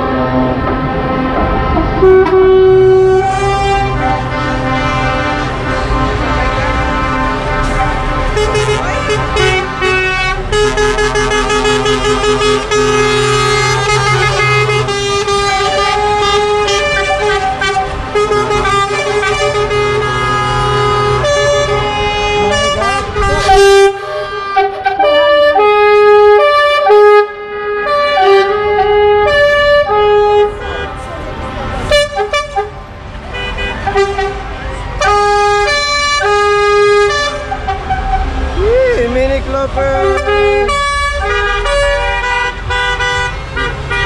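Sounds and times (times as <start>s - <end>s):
truck air horns: 0.0s - 38.6s, 39.7s - 44.0s
truck engines rumbling: 0.0s - 44.0s.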